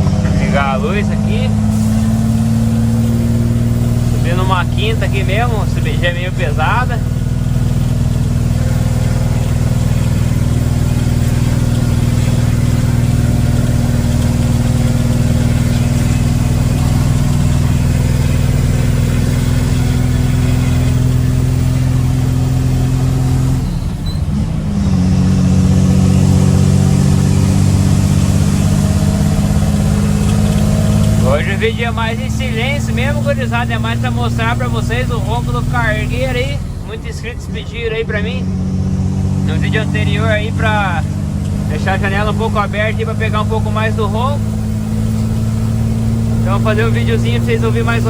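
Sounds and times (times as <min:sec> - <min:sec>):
diesel truck engine rumbling: 0:00.0 - 0:48.0.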